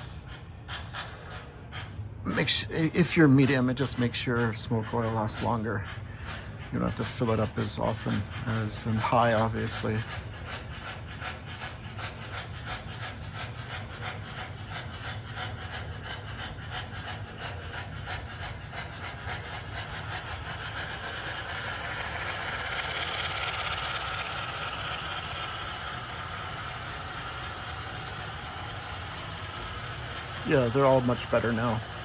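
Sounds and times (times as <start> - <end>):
model steam locomotives chuffing: 0.0 - 32.0
running gear rumbling on track: 0.0 - 32.0.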